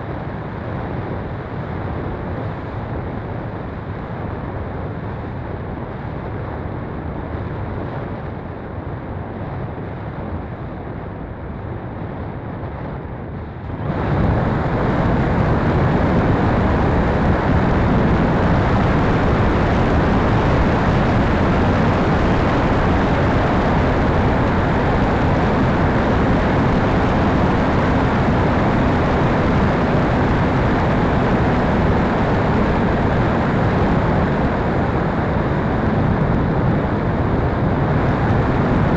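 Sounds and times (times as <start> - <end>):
rushing wind and airflow: 0.0 - 38.9.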